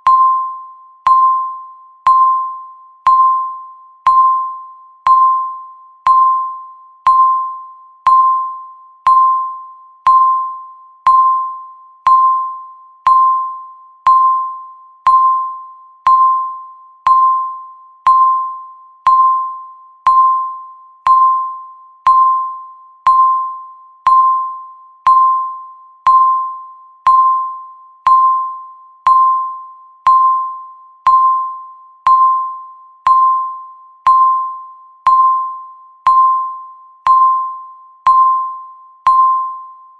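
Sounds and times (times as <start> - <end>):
electronic timer beeps: 0.0 - 39.9.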